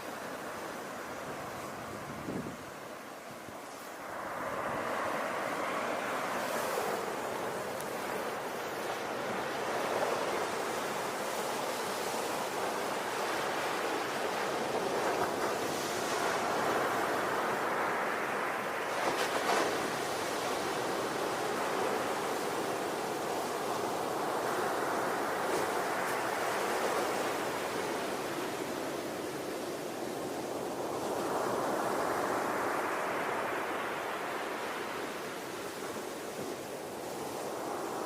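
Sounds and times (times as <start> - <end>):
ocean waves breaking on shore: 0.0 - 38.0.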